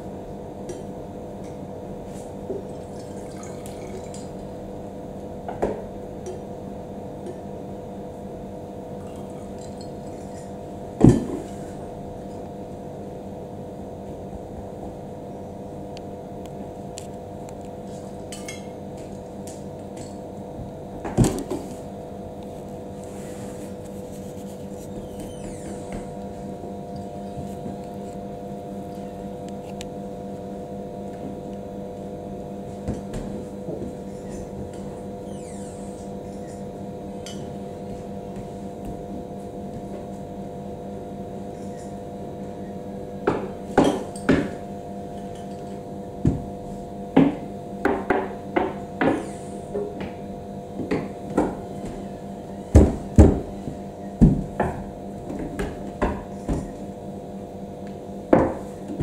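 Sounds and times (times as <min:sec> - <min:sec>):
steady room hum: 0:00.0 - 0:59.0.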